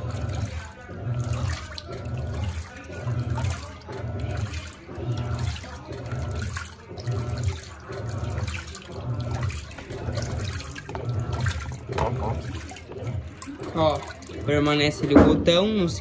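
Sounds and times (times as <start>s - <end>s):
washing machine motor humming: 0.0s - 16.0s
water sloshing in tub: 0.0s - 16.0s.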